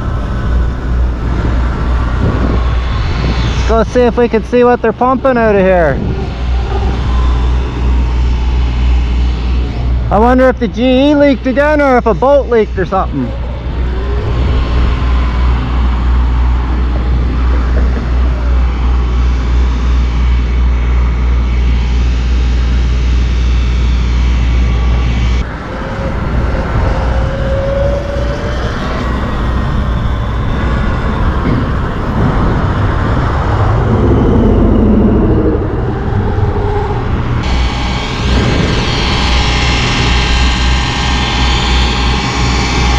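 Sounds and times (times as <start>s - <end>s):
heavy low rumble: 0.0s - 42.9s
road noise: 0.0s - 42.9s
wind rushing over microphone: 0.0s - 42.9s.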